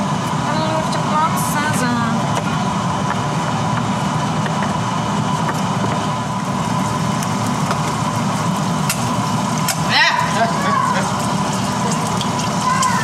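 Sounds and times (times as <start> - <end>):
exhaust fan drone: 0.0 - 13.0.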